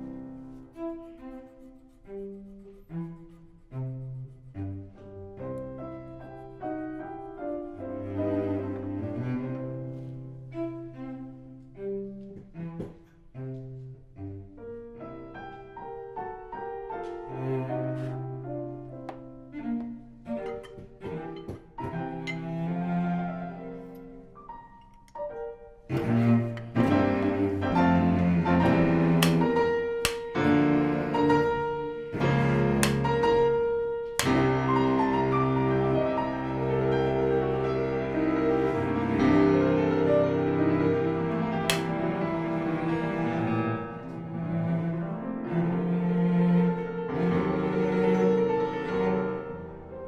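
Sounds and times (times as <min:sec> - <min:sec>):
piano and bowed strings music: 0:00.0 - 0:50.0.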